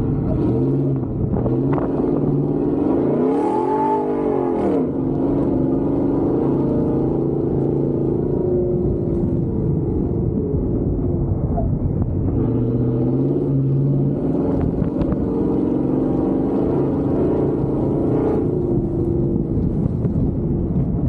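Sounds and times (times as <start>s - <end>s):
truck engine running while driving: 0.0s - 21.0s.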